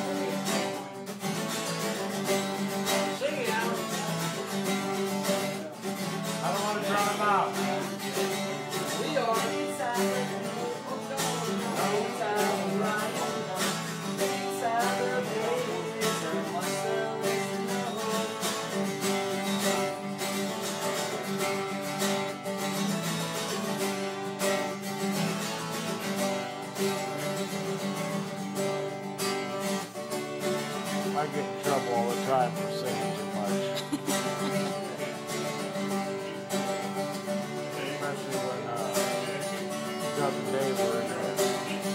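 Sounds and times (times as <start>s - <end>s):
acoustic guitars strumming: 0.0s - 41.9s.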